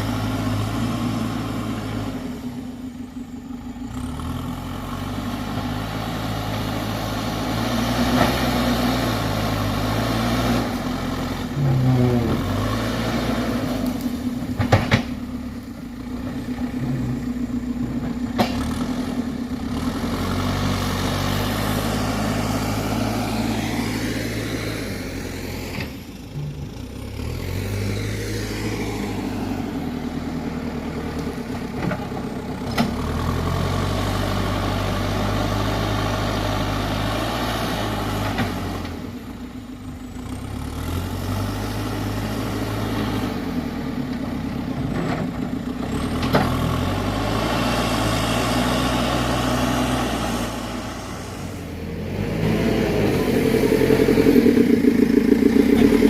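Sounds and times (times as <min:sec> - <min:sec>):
dump truck engine running: 0:00.0 - 0:56.0.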